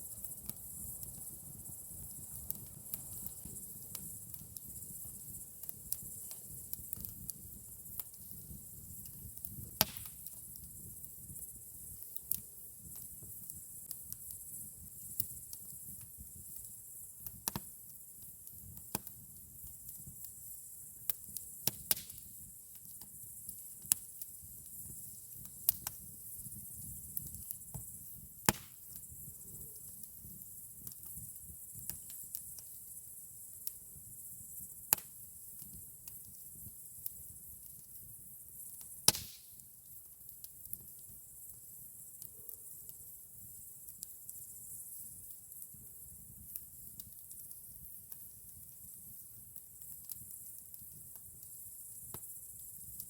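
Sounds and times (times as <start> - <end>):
faint steady hiss: 0.0 - 53.0
campfire crackling and popping: 0.1 - 53.0.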